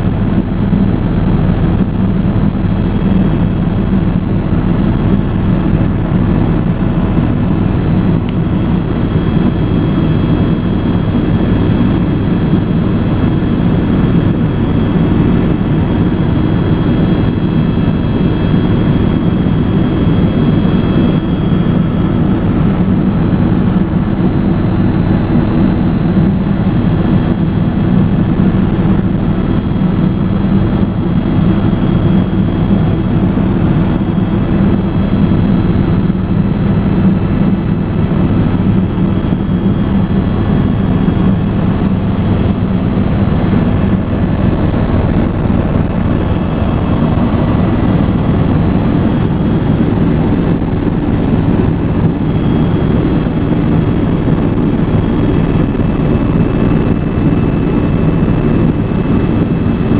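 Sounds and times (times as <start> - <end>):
helicopter rotor and turbine rumble: 0.0 - 59.9.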